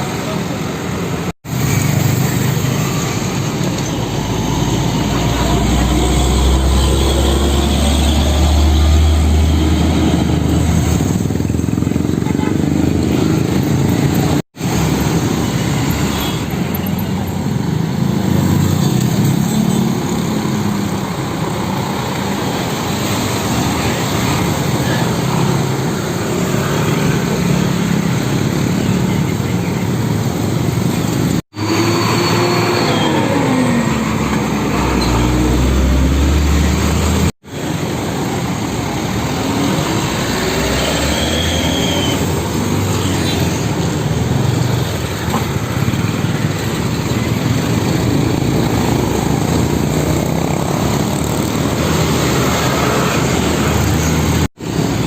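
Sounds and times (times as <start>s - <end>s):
heavy truck engines: 0.0s - 55.0s
road traffic noise: 0.0s - 55.0s.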